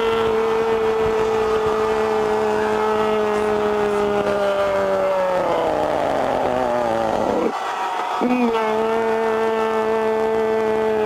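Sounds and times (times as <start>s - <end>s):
man shouting goal: 0.0s - 11.0s.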